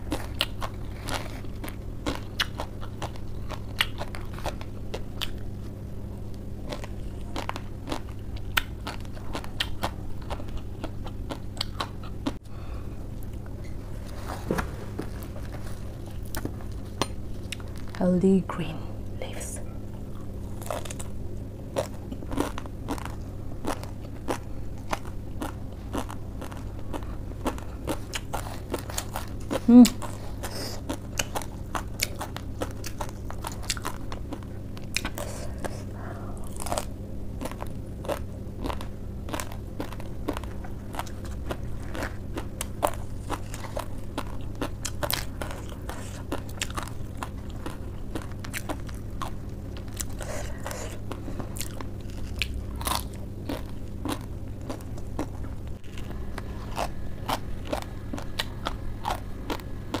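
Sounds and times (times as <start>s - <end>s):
crunching lettuce leaves: 0.0s - 12.4s, 20.5s - 60.0s
steady low hum: 0.0s - 60.0s.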